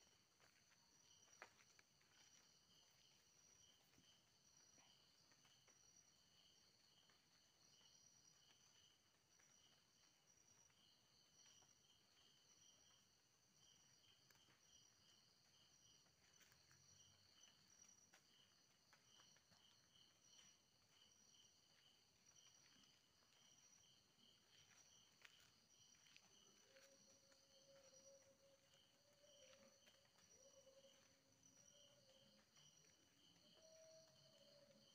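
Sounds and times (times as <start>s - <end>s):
crickets and insects chirping: 0.0s - 34.9s.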